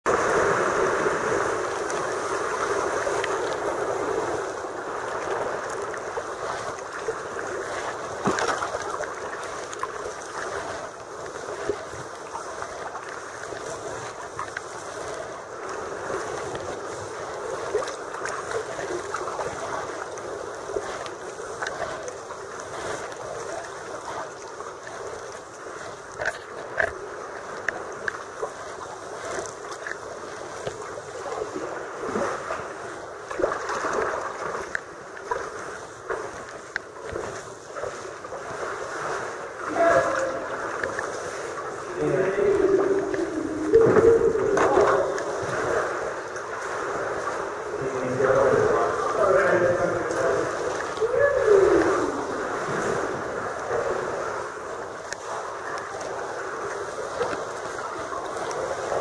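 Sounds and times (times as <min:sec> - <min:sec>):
paddle splashes and drips: 0:00.0 - 0:59.0
sea water sloshing against rock: 0:00.1 - 0:59.0.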